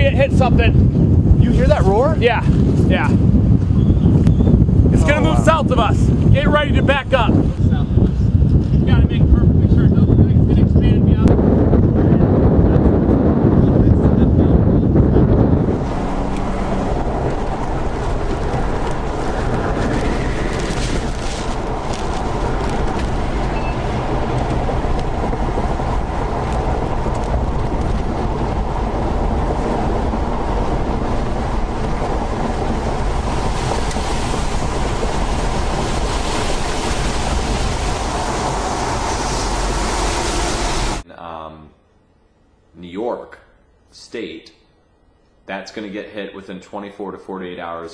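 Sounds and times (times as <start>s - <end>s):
wind roaring on microphone: 0.0s - 41.1s.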